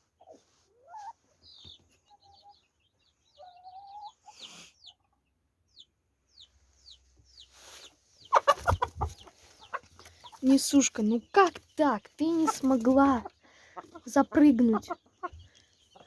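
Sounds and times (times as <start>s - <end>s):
chickens calling: 0.0s - 16.0s.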